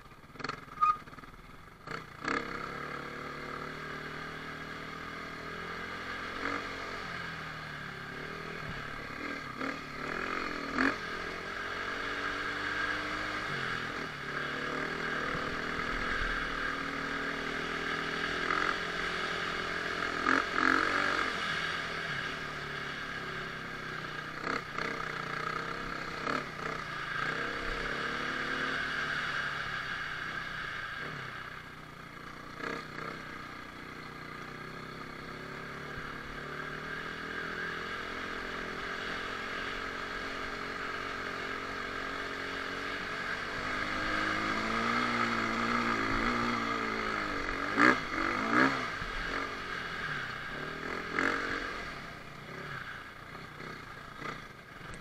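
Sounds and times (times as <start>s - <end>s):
dirt bike engine revving: 1.9s - 55.0s.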